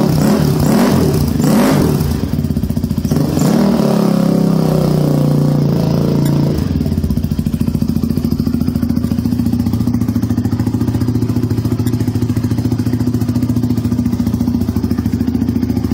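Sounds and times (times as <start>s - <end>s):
quad bike engine idling: 0.0s - 15.9s.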